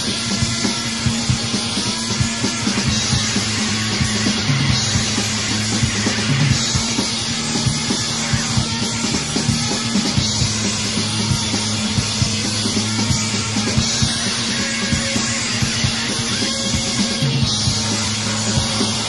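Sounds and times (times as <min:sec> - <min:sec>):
bass guitar: 0:00.0 - 0:19.0
electric guitar: 0:00.0 - 0:19.0.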